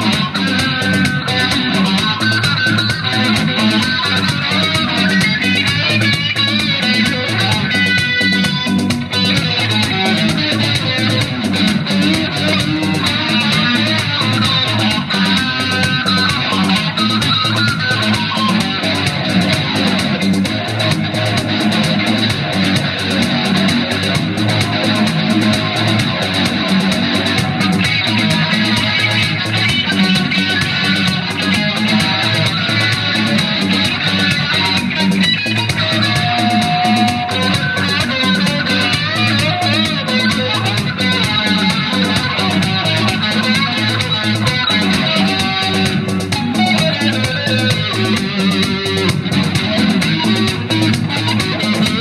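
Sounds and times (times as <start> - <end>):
electric guitar lead lines: 0.0 - 52.0
steady beat: 0.0 - 52.0.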